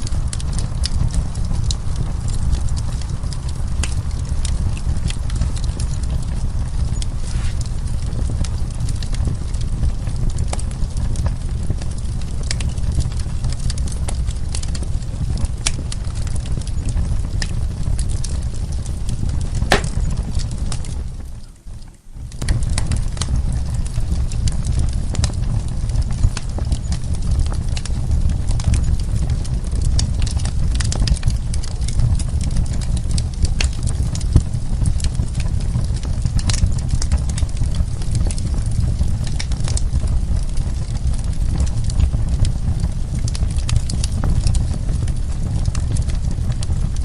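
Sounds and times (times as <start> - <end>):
burning wood crackling and popping: 0.0 - 47.0
wood fire low rumble: 0.0 - 47.0.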